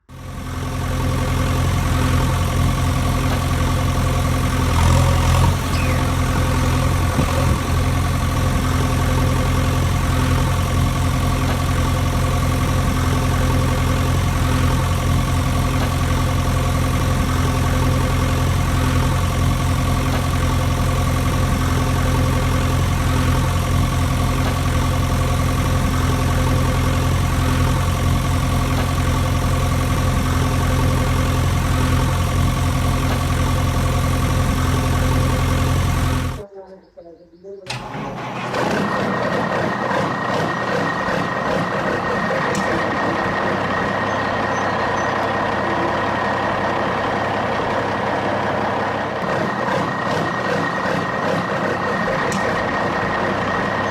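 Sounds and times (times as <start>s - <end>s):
engine idling drone: 0.0s - 36.4s, 37.7s - 53.9s.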